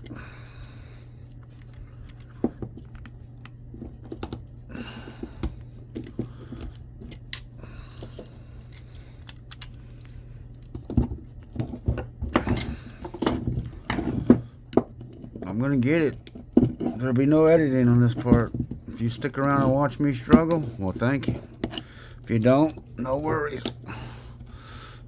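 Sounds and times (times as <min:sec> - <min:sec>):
hand tools clicking and scraping: 0:01.4 - 0:24.6.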